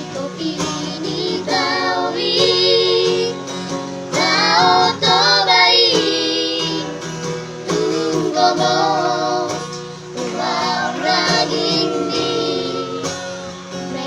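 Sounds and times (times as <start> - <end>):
children singing: 0.0 - 3.5, 4.1 - 14.0
acoustic guitar: 0.0 - 14.0.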